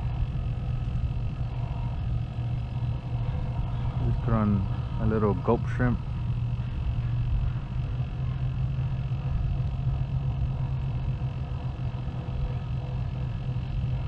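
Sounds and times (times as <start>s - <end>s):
distant industrial machinery drone: 0.0s - 14.0s
faint whining tones: 0.0s - 14.0s.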